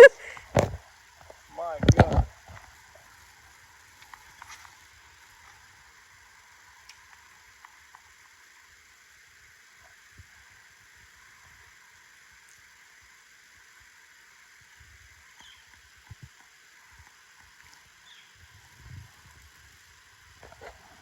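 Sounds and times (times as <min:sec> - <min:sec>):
faint outdoor background hiss: 0:00.0 - 0:21.0.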